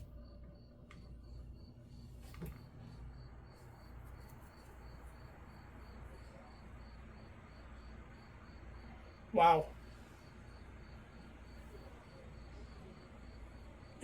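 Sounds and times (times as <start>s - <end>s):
cricket chirping: 0.0s - 14.0s
fan humming: 0.0s - 14.0s.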